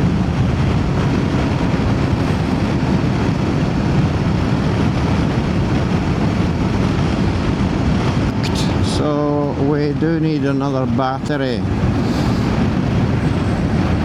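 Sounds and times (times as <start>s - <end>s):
road noise: 0.0s - 14.0s
wind rush: 0.0s - 14.0s.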